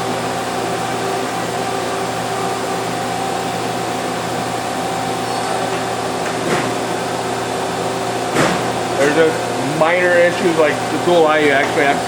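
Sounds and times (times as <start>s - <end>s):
high machine whine: 0.0s - 12.0s
lathe machine hum: 0.0s - 12.0s.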